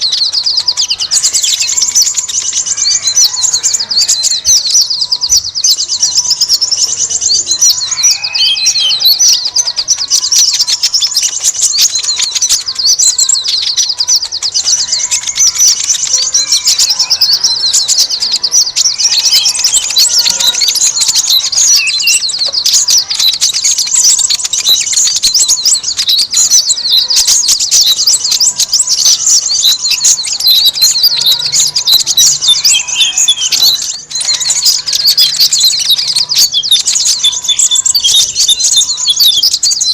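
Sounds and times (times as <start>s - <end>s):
small birds twittering: 0.0s - 39.9s
whistled bird calls: 0.0s - 39.9s.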